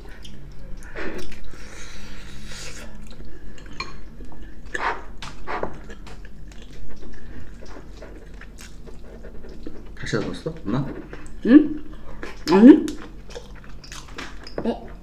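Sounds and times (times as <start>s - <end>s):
chewing and mouth sounds: 0.0s - 15.0s.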